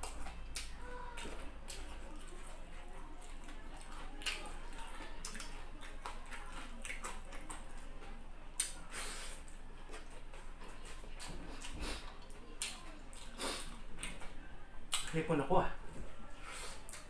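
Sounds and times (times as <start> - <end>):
chewing and mouth smacking: 0.0 - 15.2.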